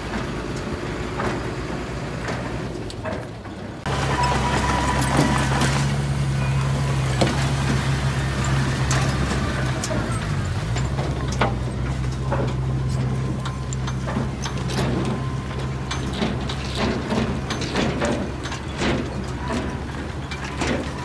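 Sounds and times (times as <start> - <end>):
machine clicks and knocks: 0.0 - 5.8, 7.2 - 21.0
bulldozer diesel engine running: 0.0 - 21.0.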